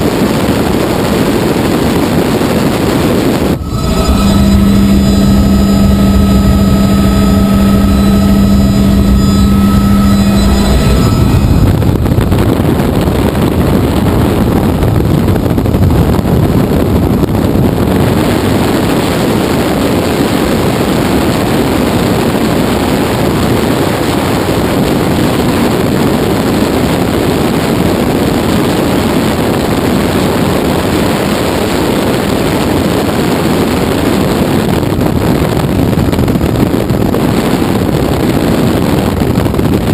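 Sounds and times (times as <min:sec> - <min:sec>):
helicopter droning hum: 0:00.0 - 0:39.9
rotor and wind rushing: 0:00.0 - 0:39.9.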